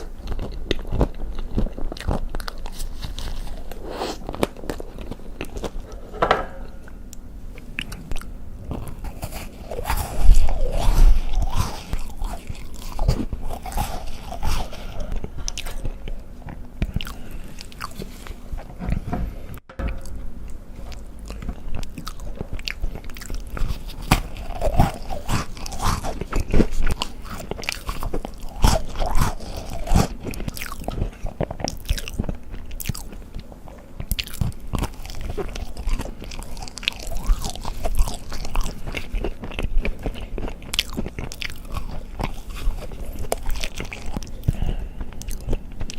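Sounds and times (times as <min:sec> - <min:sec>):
crunchy bites and chewing: 0:00.0 - 0:06.2, 0:06.9 - 0:18.8, 0:19.8 - 0:45.9.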